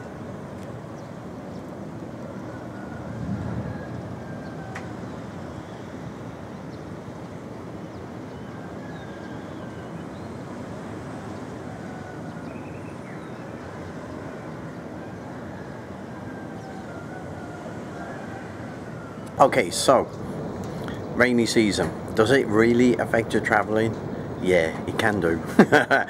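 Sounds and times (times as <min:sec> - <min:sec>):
city traffic rumble: 0:00.0 - 0:26.0.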